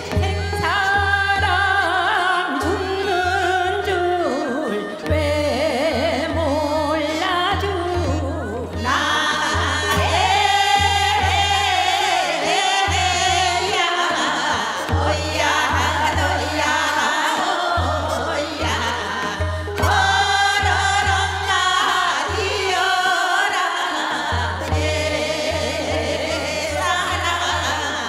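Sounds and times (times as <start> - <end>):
woman singing with vibrato: 0.0 - 28.0.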